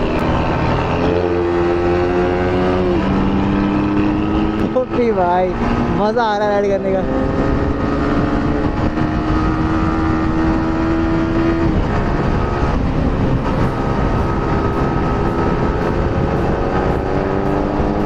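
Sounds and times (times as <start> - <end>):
motorcycle engine: 0.0 - 6.2, 6.9 - 18.0
wind rush on microphone: 0.0 - 18.0.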